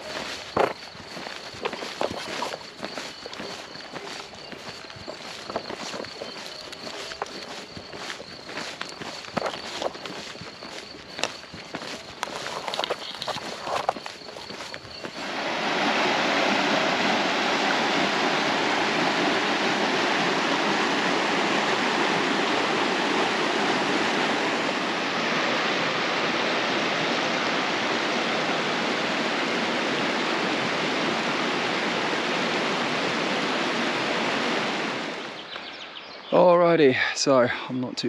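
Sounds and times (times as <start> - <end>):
rushing water: 0.0 - 37.4.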